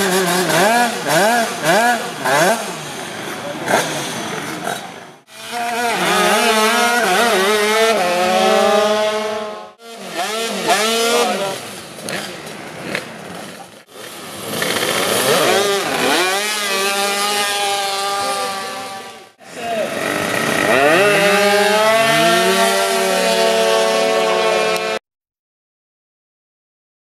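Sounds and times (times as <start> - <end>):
two-stroke motorcycle engines revving: 0.0 - 25.0.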